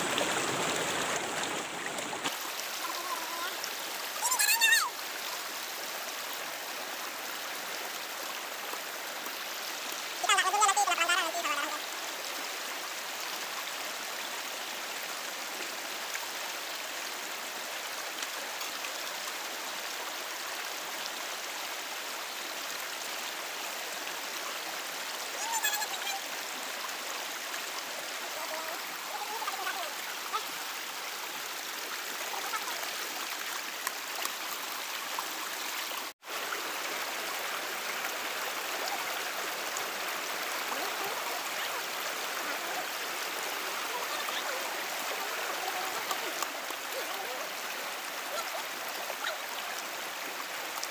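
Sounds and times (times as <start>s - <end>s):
stream rushing: 0.0s - 50.9s.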